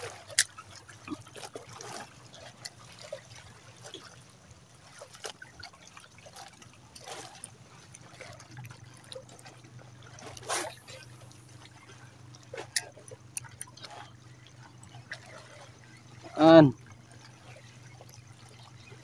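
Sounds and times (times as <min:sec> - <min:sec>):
light splashes: 0:00.0 - 0:19.0
shallow water sloshing: 0:00.0 - 0:19.0.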